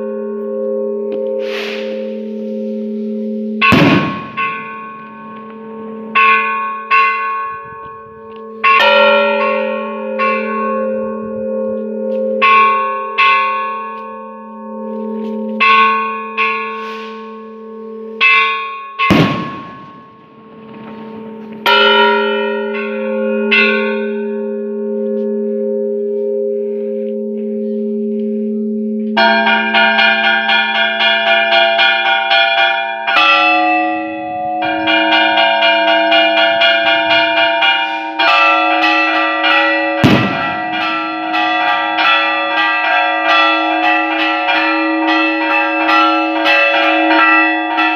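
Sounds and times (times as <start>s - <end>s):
church bells ringing: 0.0s - 47.9s
low hum of large bell: 0.0s - 47.9s.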